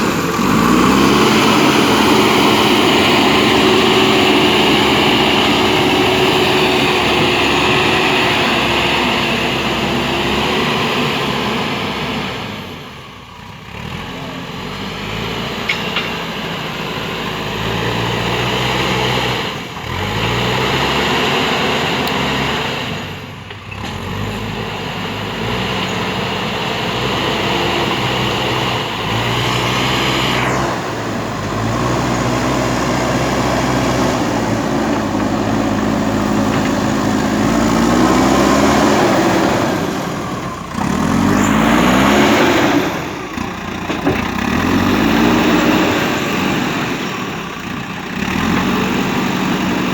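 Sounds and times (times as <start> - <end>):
diesel engine revving: 0.0 - 49.9.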